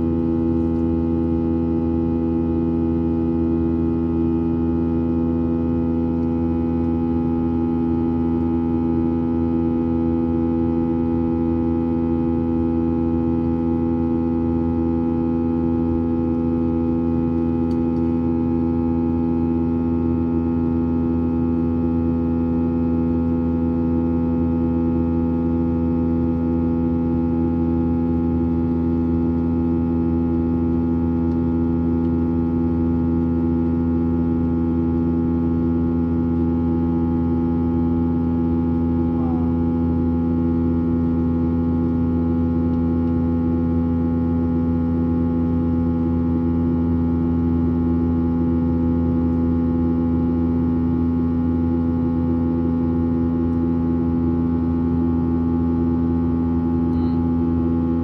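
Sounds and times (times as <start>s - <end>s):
airplane cabin engine drone: 0.0s - 35.0s, 35.8s - 58.0s.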